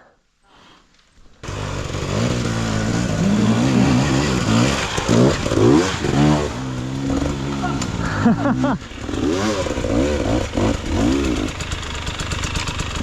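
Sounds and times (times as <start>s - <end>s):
dirt bike engine revving: 1.4s - 13.0s.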